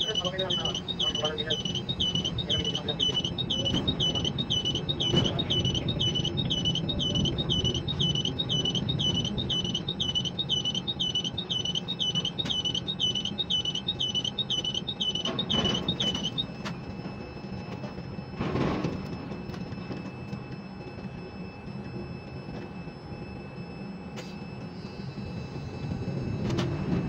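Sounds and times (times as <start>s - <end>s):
crane machinery rumble: 0.0s - 27.0s
electronic warning beep: 0.0s - 27.0s.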